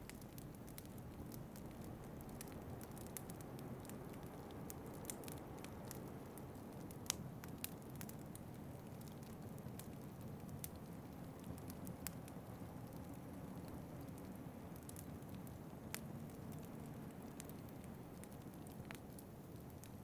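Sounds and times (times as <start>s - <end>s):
fireplace fire crackling: 0.0s - 20.0s
low rumble of fire: 0.0s - 20.0s.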